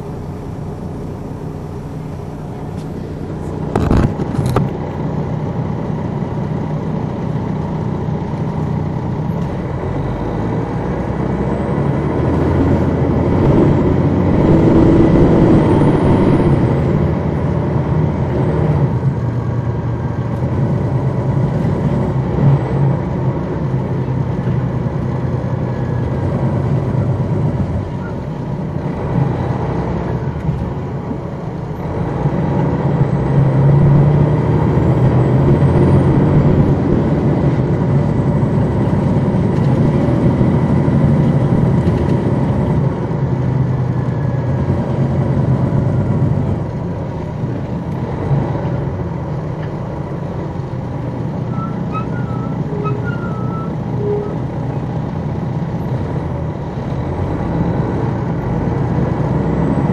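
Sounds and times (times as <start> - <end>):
coach diesel engine running: 0.0 - 59.9.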